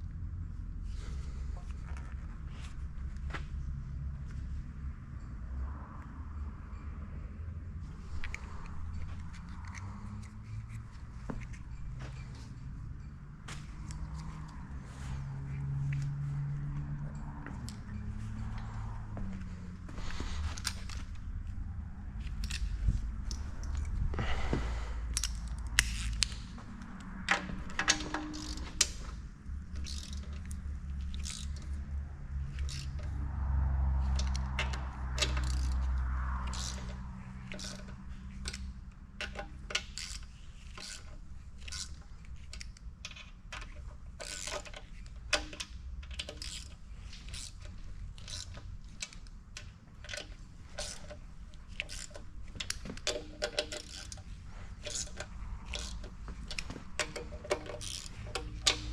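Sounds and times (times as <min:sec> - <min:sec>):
metallic clicks of tools on metal: 0:06.0 - 0:19.1, 0:22.2 - 0:24.4, 0:25.1 - 0:58.9.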